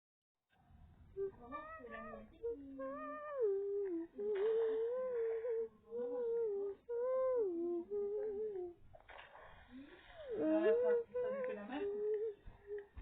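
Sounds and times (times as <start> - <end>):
girl humming a tune: 1.2 - 8.9, 9.7 - 13.0.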